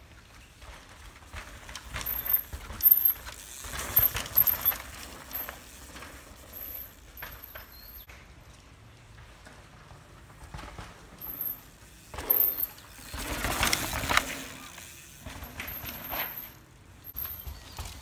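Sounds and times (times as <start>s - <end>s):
bike chain and frame clattering: 0.0s - 18.0s
bike tyres crunching over dirt: 0.0s - 18.0s.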